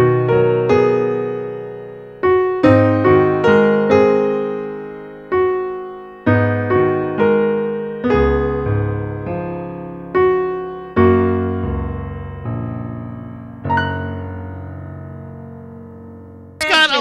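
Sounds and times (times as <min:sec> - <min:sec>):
slow gentle piano chords: 0:00.0 - 0:16.6.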